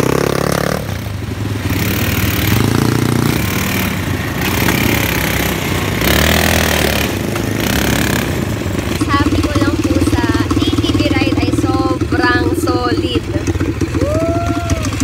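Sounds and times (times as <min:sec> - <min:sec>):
quad bike engines running: 0:00.0 - 0:15.0
water splashing under wheels: 0:00.0 - 0:15.0.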